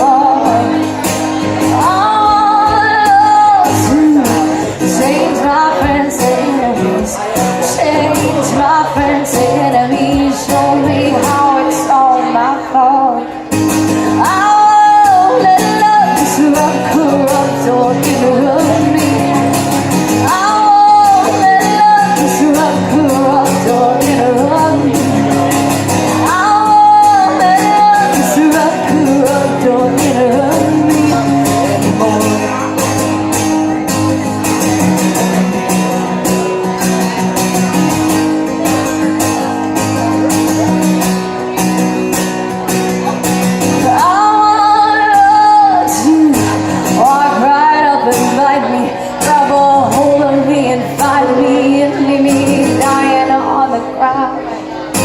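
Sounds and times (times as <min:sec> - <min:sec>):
strummed guitar: 0:00.0 - 0:55.0.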